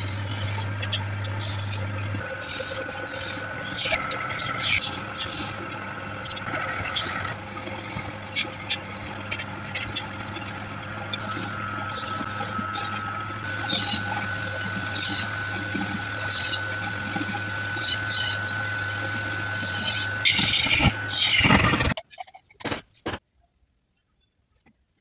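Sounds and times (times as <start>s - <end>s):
abrasive rubbing spinning wood: 0.0s - 22.0s
wood lathe humming: 0.0s - 22.0s.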